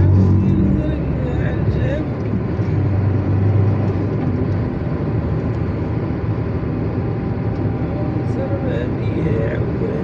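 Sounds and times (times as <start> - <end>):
motor traffic rumble: 0.0 - 10.0.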